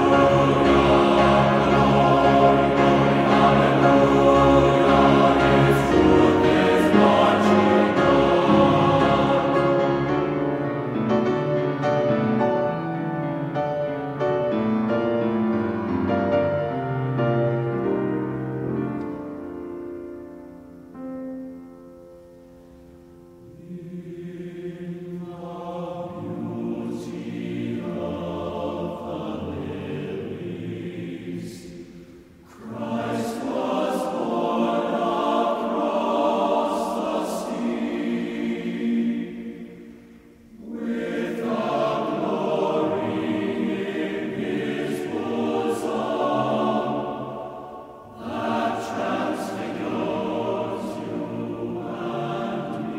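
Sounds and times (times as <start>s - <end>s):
choir-like voices music: 0.0s - 21.1s, 22.2s - 52.9s.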